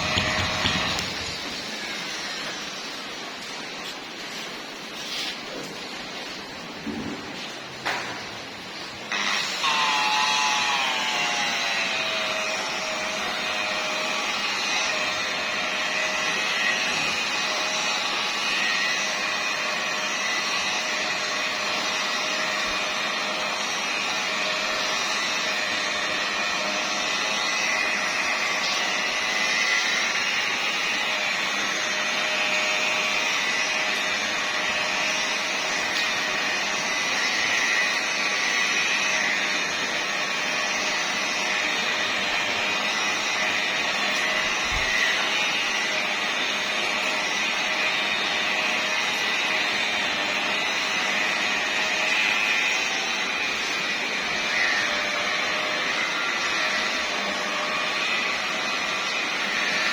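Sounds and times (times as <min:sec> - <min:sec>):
machine polisher whirring: 0:00.0 - 0:59.9.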